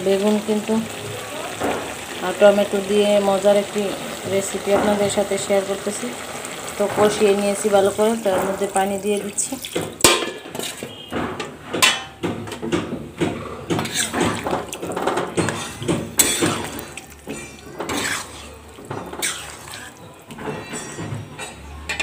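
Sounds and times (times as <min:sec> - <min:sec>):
spoon stirring and scraping pan: 0:01.6 - 0:22.0.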